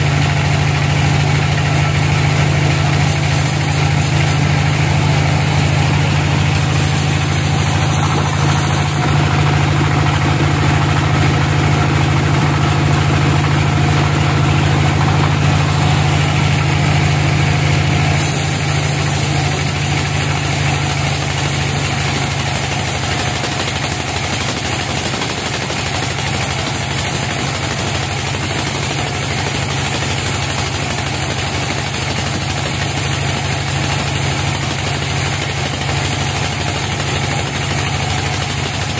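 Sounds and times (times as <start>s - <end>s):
band saw blade cutting log: 0.0s - 38.9s
sawmill machine low drone: 0.0s - 38.9s.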